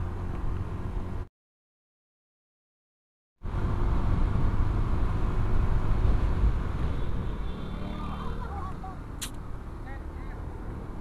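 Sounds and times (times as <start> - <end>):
scooter engine and road noise: 0.0 - 1.3, 3.4 - 11.0.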